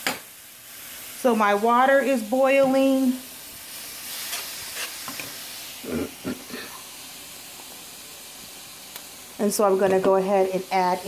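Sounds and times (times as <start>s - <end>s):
water boiling in a pot: 0.0s - 4.1s, 4.8s - 11.0s
meat sizzling in a frying pan: 0.0s - 11.0s.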